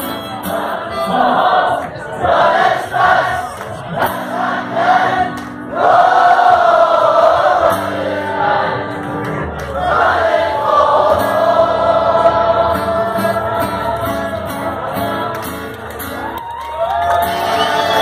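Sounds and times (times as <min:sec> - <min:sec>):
crowd singing along: 0:00.0 - 0:16.2, 0:17.2 - 0:18.0.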